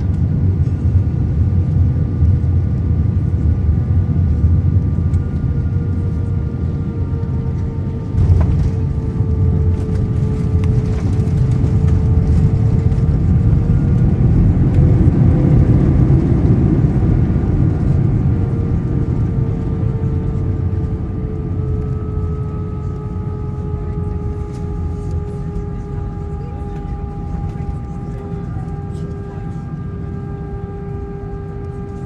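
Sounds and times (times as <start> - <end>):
airliner engines and airflow rumble: 0.0 - 32.0
faint engine whine: 0.0 - 32.0.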